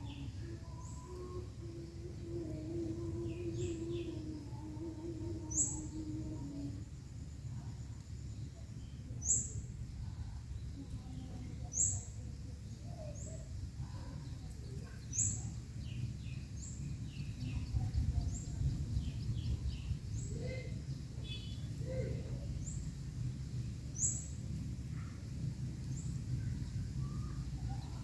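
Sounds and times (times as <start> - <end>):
small birds chirping: 0.0 - 28.0
steady low rumble: 0.0 - 28.0.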